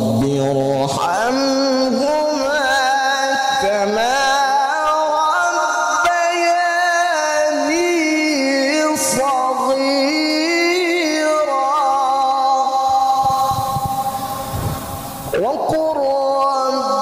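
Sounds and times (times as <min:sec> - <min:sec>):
man reciting melodically into microphone: 0:00.0 - 0:17.0.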